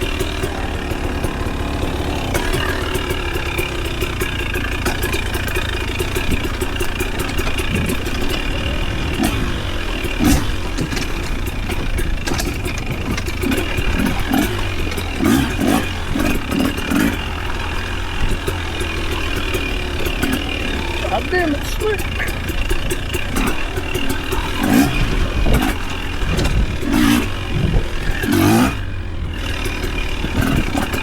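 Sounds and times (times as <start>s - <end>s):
engine surges: 0.0s - 31.0s
sharp clicks: 0.0s - 31.0s
vehicle engine at low revs: 0.0s - 31.0s.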